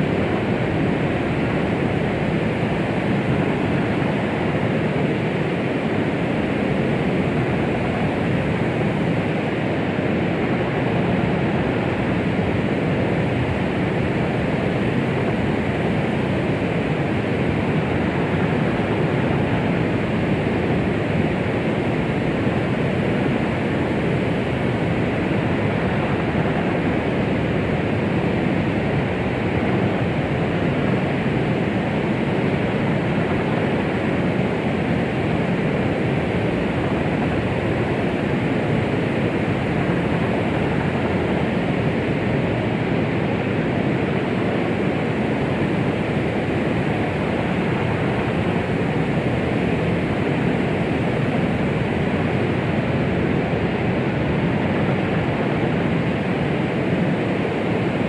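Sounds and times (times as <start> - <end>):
low white noise hiss: 0.0 - 58.0.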